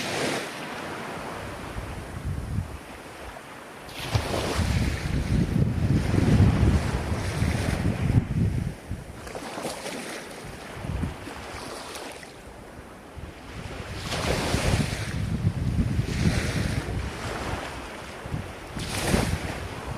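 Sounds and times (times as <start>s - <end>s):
ocean waves breaking: 0.0s - 19.9s
wind buffeting microphone: 1.2s - 9.4s, 10.4s - 11.6s, 12.5s - 19.9s.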